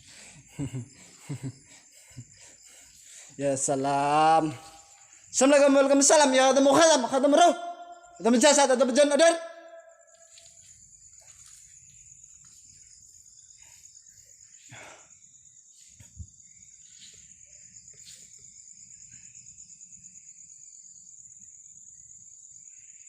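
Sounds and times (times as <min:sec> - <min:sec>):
night insects trilling: 0:00.0 - 0:23.0.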